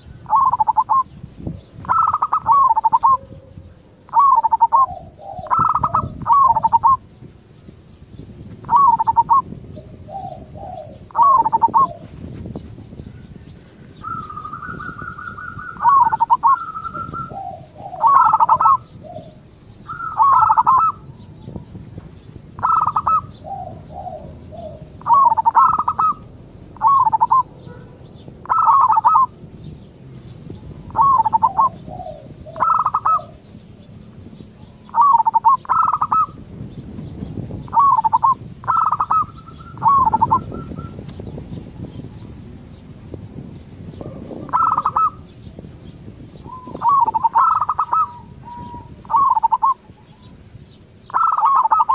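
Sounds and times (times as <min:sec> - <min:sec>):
dove trilled phrase: 0:00.0 - 0:07.1, 0:08.6 - 0:12.1, 0:12.9 - 0:29.9, 0:30.6 - 0:51.9
dove cooing song: 0:00.0 - 0:51.9.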